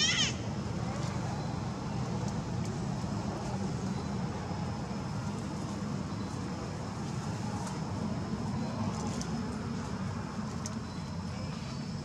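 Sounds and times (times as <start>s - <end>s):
low outdoor background rumble: 0.0s - 12.0s.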